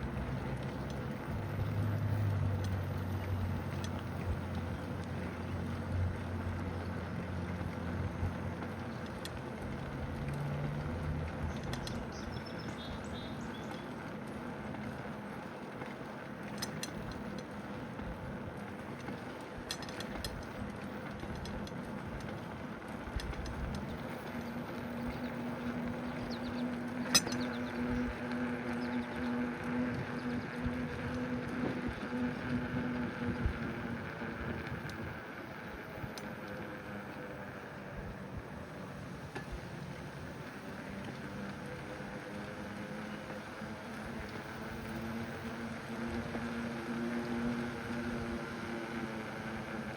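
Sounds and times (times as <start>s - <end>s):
bicycle tyres rolling: 0.0s - 49.9s
low steady hum: 0.0s - 49.9s.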